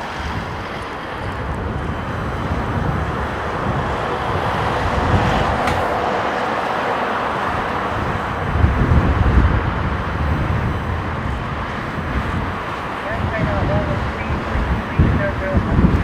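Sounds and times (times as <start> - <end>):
jet engine noise: 0.0 - 16.0
wind buffeting microphone: 0.0 - 16.0.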